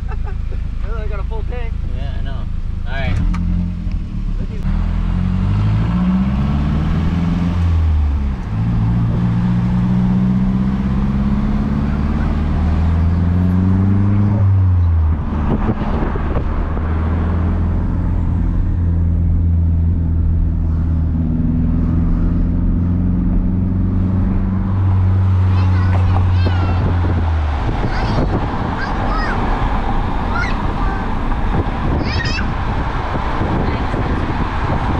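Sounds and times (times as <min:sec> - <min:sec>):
car engine pulling through gears: 0:00.0 - 0:34.9
road and wind noise: 0:00.0 - 0:34.9.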